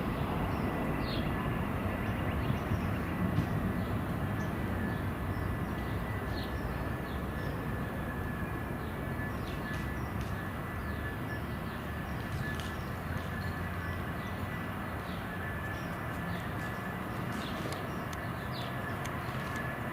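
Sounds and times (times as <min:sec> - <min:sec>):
birds chirping: 0:00.0 - 0:19.9
train wheels rumbling on rail: 0:00.0 - 0:19.9.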